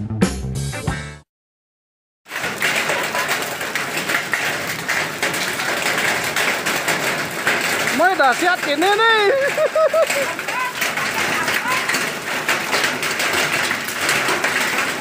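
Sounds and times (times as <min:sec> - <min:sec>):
hail rattling: 0:02.2 - 0:15.0.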